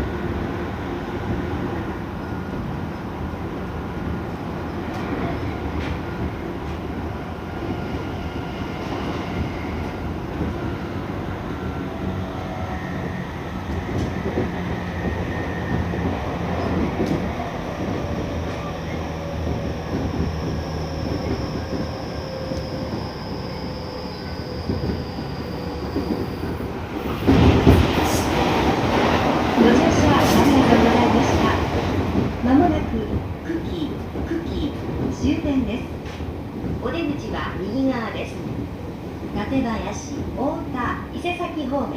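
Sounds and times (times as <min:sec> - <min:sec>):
train wheel-on-rail rumble: 0:00.0 - 0:41.9.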